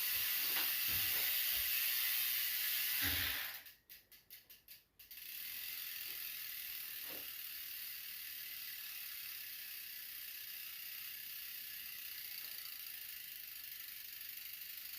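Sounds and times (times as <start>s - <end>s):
bicycle freehub buzzing: 0.0s - 14.9s.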